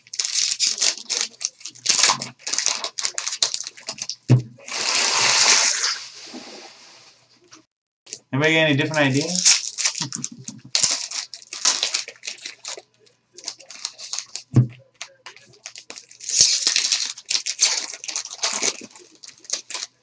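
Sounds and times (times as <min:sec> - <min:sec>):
foil wrapper crinkling: 0:00.0 - 0:06.0, 0:08.9 - 0:20.0.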